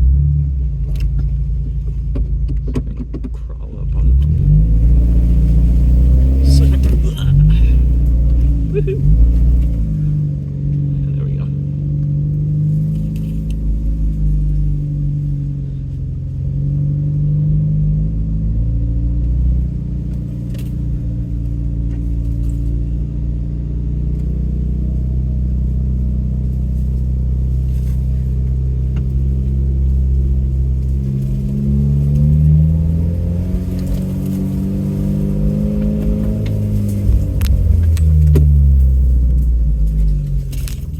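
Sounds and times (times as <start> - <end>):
off-road vehicle engine at low revs: 0.0 - 40.9.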